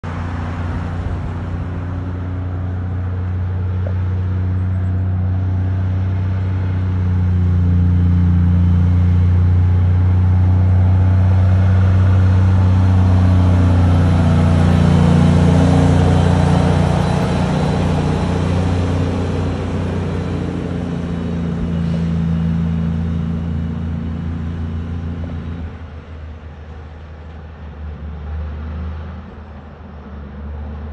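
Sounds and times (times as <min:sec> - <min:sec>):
truck diesel engine drone: 0:00.0 - 0:30.9.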